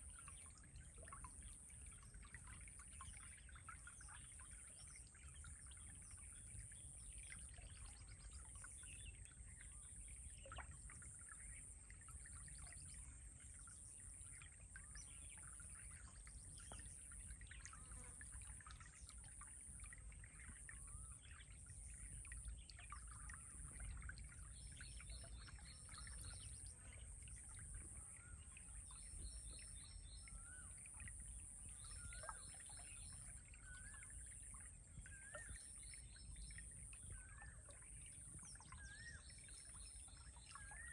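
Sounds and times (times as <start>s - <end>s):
faint birdsong chirps: 0.0s - 40.9s.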